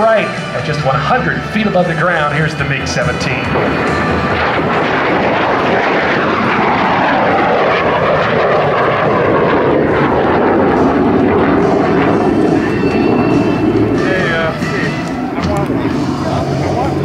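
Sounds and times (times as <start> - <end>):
jet engine flyby: 0.0 - 17.0.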